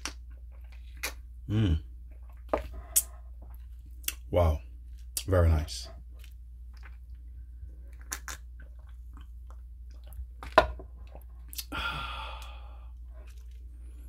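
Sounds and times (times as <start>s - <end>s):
drinking and swallowing: 0.3s - 4.2s, 6.0s - 14.0s.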